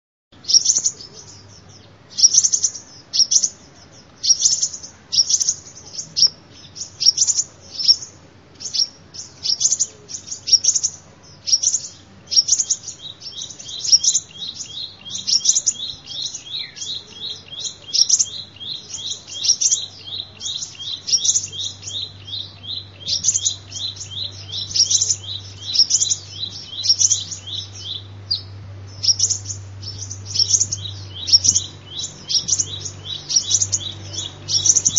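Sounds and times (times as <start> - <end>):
bird high chirps: 0.4 - 34.9
bird rapid twittering: 0.4 - 34.9.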